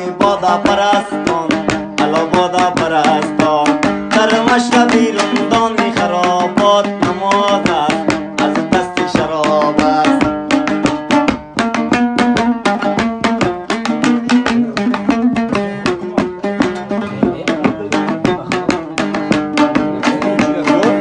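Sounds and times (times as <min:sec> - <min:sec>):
long-necked lute strummed: 0:00.0 - 0:21.0
percussion: 0:00.0 - 0:21.0.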